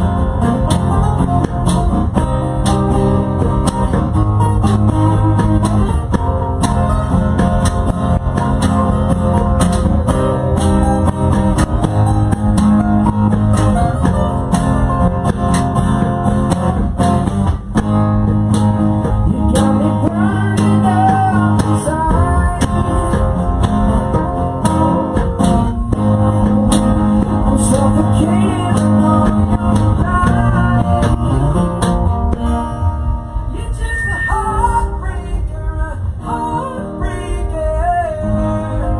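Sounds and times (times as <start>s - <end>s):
rock band playing live: 0.0s - 34.6s
lead guitar: 0.0s - 38.9s.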